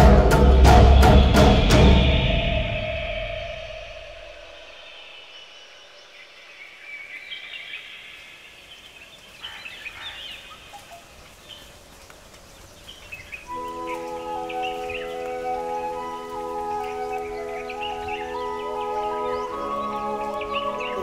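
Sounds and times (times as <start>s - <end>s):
bird chirps and trills: 0.0s - 11.8s, 12.4s - 21.0s.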